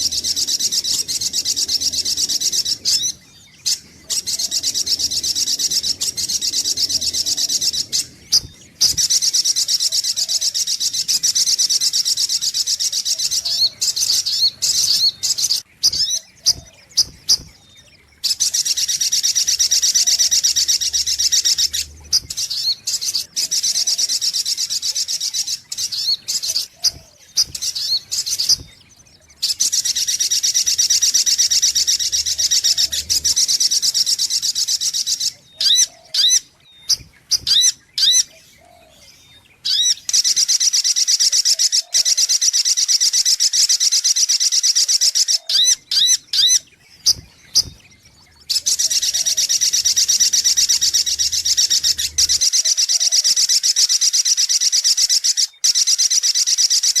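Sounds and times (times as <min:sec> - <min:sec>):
sunbird high-pitched trills: 0:00.0 - 0:57.0.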